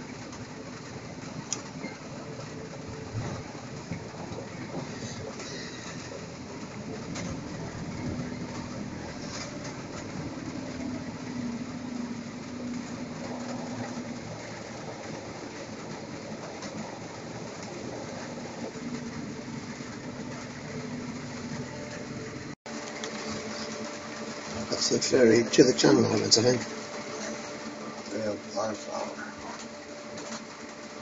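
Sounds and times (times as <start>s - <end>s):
ferry mechanical rumble and rattle: 0.0s - 31.0s.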